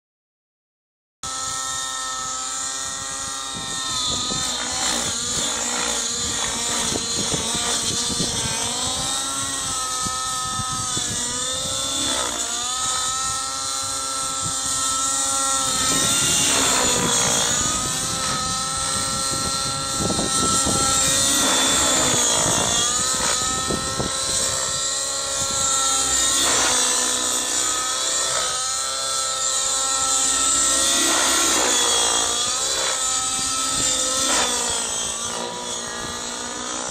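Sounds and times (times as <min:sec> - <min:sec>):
model helicopter rotor whine: 0:01.2 - 0:36.9.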